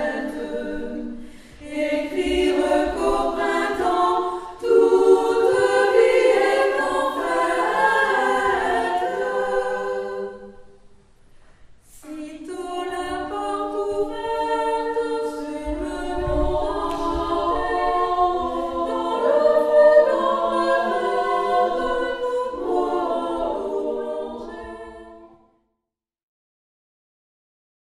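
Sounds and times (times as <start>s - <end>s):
choir singing a cappella: 0.0s - 25.6s.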